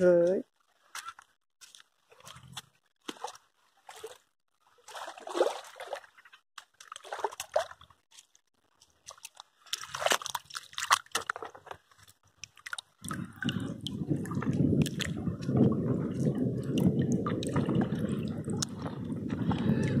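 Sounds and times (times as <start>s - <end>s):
footsteps squelching in mud: 0.7s - 20.0s
splashing in muddy water: 0.9s - 20.0s.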